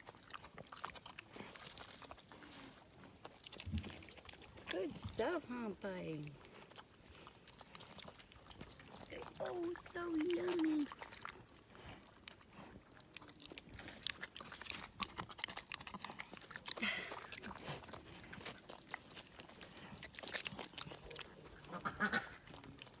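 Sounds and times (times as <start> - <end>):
pig chewing and lip-smacking: 0.0 - 23.0.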